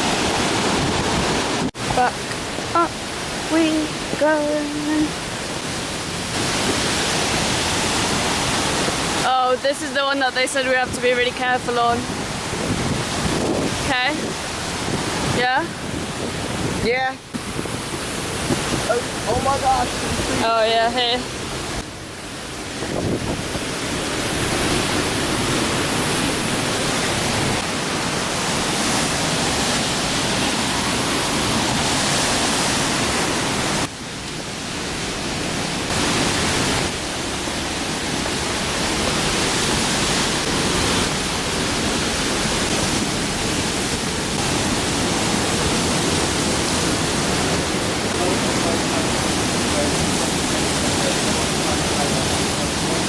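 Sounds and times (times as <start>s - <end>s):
waterfall: 0.0s - 53.0s.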